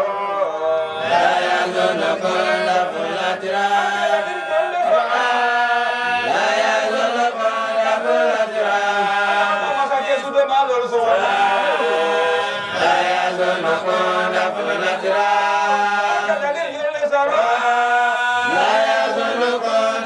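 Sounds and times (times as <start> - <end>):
men chanting together: 0.0 - 10.3, 10.9 - 20.0.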